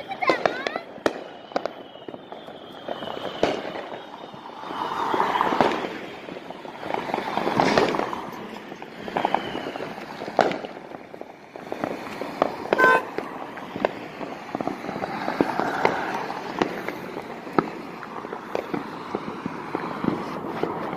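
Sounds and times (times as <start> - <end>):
fireworks pops and bangs: 0.0 - 20.9.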